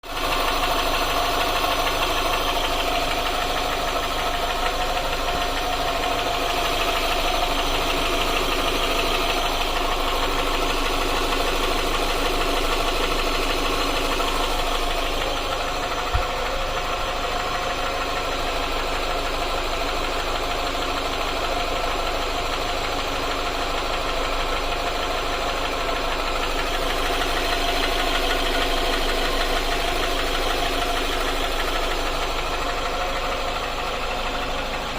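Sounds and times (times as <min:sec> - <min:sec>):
car engine knocking: 0:00.0 - 0:34.9.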